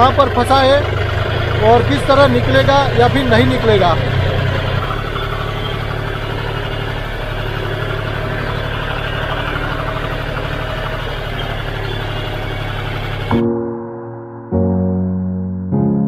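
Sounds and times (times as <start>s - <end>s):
tractor diesel engine running: 0.0s - 13.6s.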